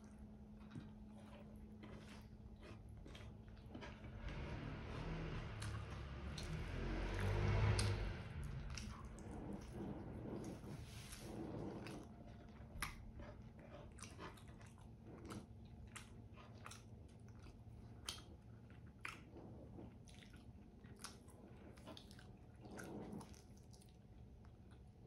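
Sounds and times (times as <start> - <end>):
chewing meat: 0.0 - 25.0.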